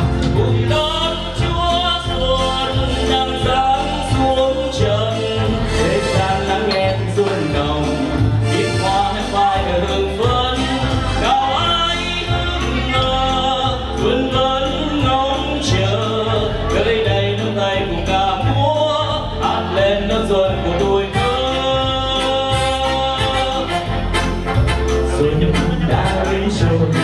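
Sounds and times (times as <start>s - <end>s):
electronic keyboard with bass line: 0.0s - 27.0s
man singing into a microphone: 0.0s - 27.0s.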